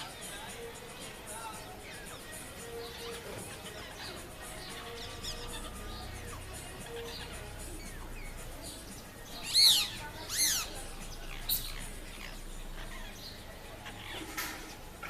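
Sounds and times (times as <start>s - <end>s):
faint chirps: 0.0s - 15.0s
parrots calling: 0.0s - 15.0s.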